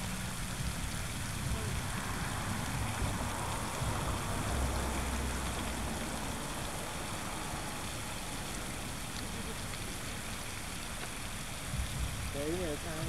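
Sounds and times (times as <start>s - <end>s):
low rumble: 0.0s - 10.6s, 11.5s - 12.4s
rushing hiss: 0.0s - 13.0s.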